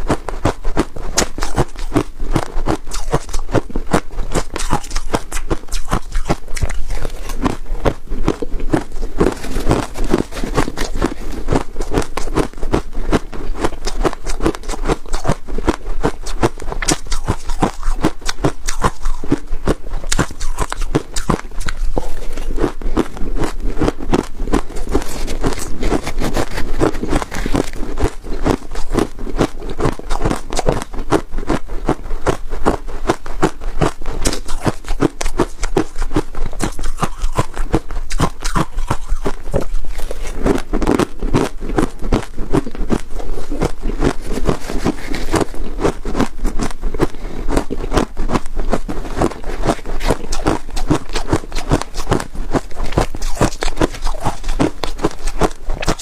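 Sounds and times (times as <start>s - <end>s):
chewing crunching ice: 0.0s - 56.0s.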